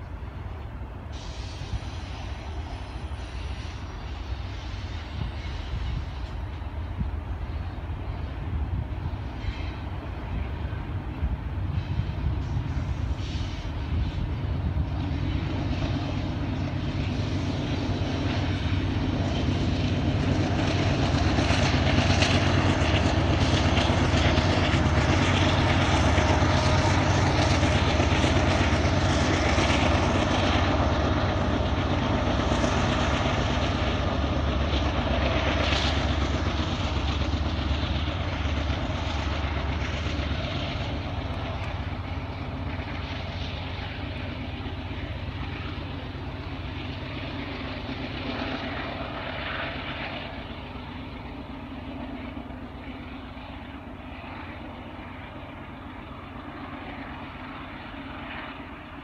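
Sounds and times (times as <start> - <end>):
train wheels running on rails: 0.0 - 59.0
diesel engine hum: 6.4 - 59.0.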